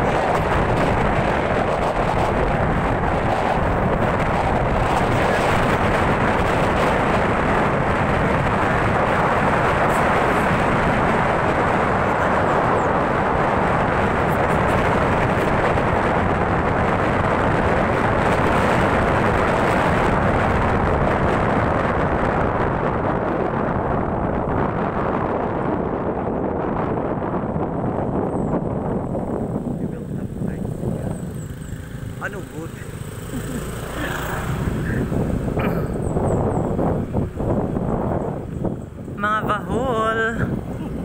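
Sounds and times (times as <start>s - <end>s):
vehicle road and engine noise: 0.0s - 41.0s
wind buffeting microphone: 0.0s - 41.0s.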